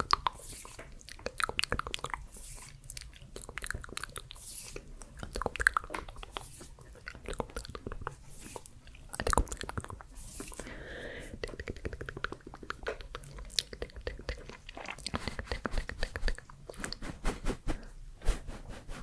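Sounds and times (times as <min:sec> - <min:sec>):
wet lip and tongue clicks: 0:00.0 - 0:10.7, 0:11.4 - 0:17.0.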